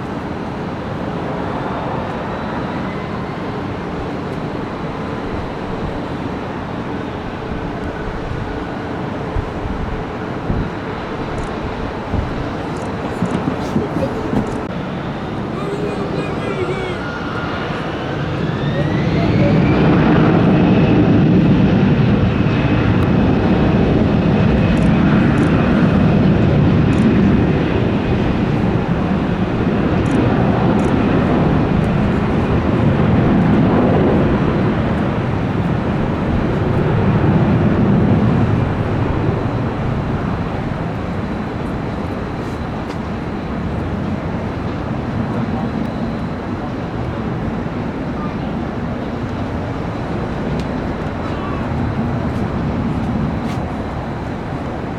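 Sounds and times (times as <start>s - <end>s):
high jet engine whine: 0.0s - 54.9s
jet airliner rushing rumble: 0.0s - 54.9s.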